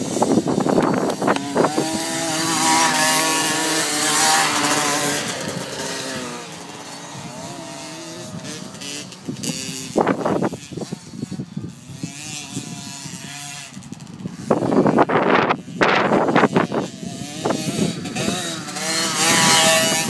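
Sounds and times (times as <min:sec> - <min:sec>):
dirt bike engine revving past: 0:00.0 - 0:20.0.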